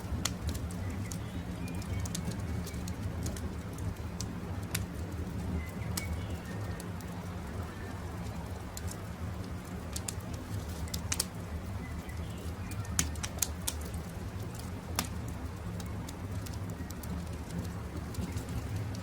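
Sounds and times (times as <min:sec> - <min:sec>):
campfire crackling and popping: 0:00.0 - 0:19.0
birds calling faintly: 0:00.1 - 0:19.0.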